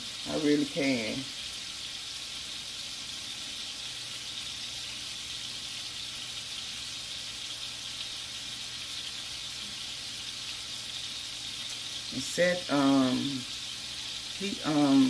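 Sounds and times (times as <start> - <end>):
burger patties sizzling in a pan: 0.0 - 15.0.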